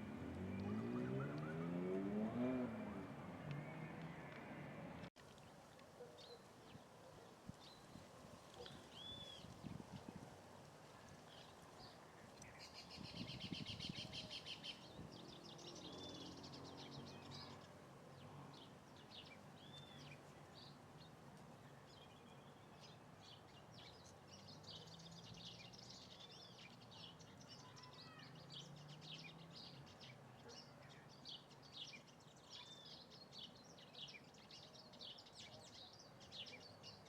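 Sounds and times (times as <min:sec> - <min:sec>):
small birds chirping and trilling: 0:05.4 - 0:10.2, 0:10.8 - 0:37.0.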